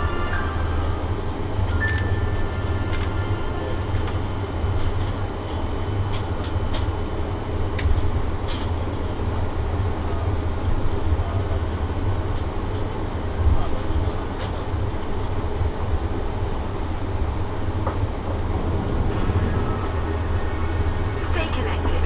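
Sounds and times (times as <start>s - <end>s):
aircraft engine low rumble: 0.0s - 22.0s.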